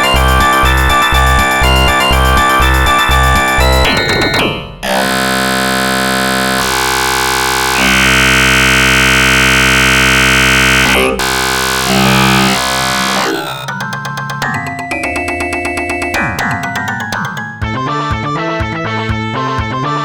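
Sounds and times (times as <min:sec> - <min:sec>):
distorted midi synthesizer music: 0:00.0 - 0:17.6.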